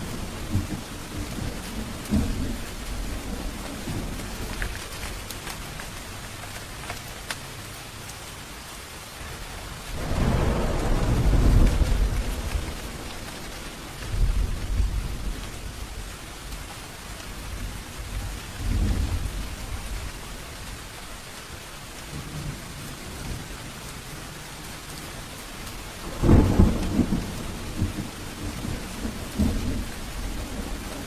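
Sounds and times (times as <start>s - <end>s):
thunder rumbling: 0.0s - 7.3s, 9.7s - 21.3s, 22.0s - 31.0s
steady rain: 0.0s - 31.0s.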